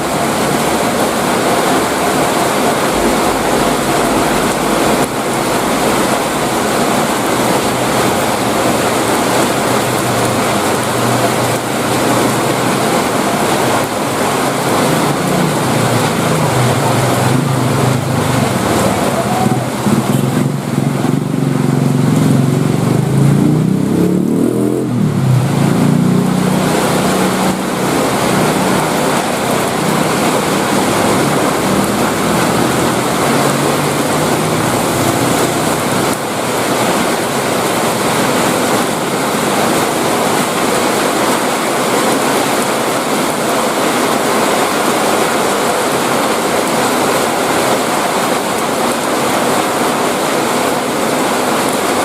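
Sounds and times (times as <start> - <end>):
passing vehicle engine: 0.0 - 45.2
heavy rain hiss: 0.0 - 52.0.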